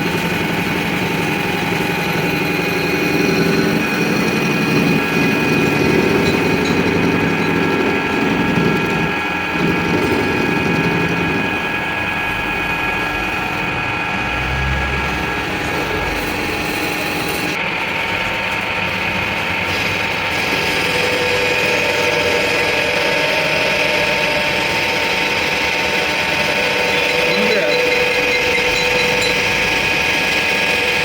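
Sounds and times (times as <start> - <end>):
workshop machine whining: 0.0 - 31.0.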